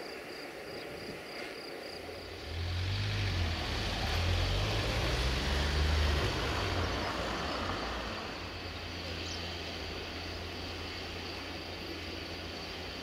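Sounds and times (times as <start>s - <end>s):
steady outdoor hiss: 0.0s - 13.0s
distant vehicle engine rumble: 1.8s - 13.0s.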